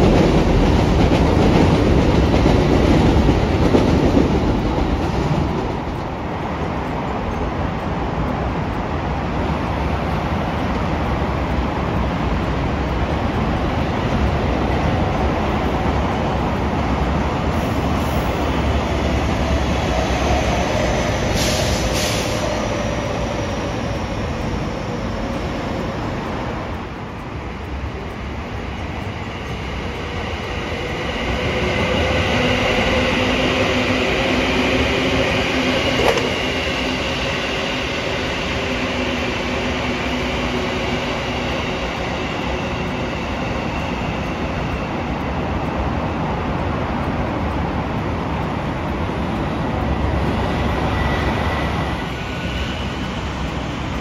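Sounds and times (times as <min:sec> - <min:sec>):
train wheels rumbling on rails: 0:00.0 - 0:54.0
train whine: 0:00.0 - 0:54.0.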